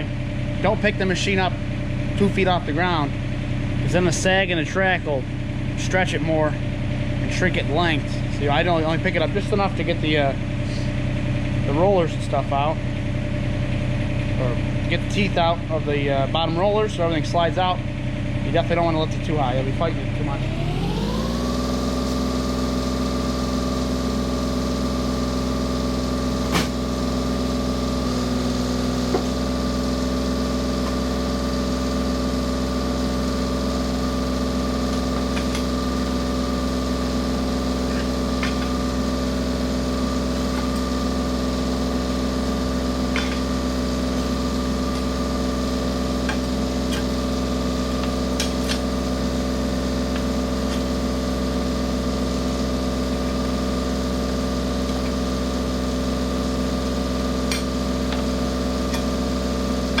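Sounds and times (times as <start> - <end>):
excavator engine and hydraulics whining: 0.0 - 60.0.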